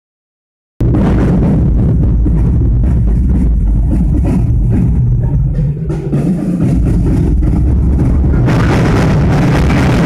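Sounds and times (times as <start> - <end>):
loud distorted low rumble: 0.8 - 10.0.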